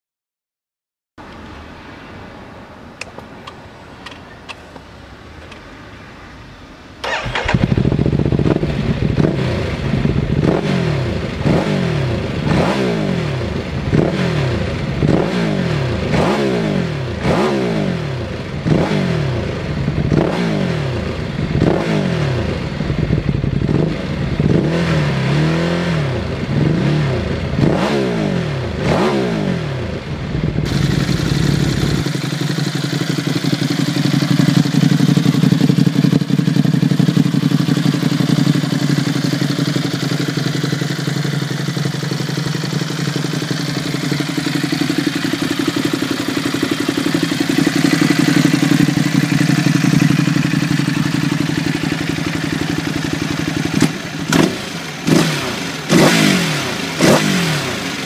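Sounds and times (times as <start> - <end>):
motorcycle engine revving: 7.0 - 58.0.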